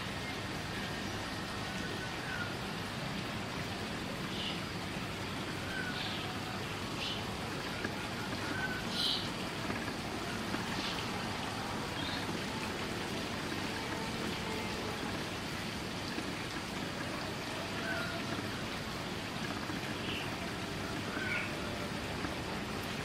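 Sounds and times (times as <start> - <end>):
steady outdoor hiss: 0.0 - 23.0.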